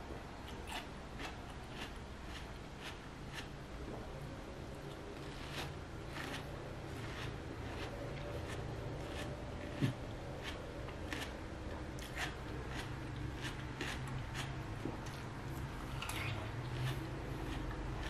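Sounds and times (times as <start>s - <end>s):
steady low hum: 0.0s - 18.0s
person chewing watermelon: 0.4s - 4.1s, 4.8s - 18.0s.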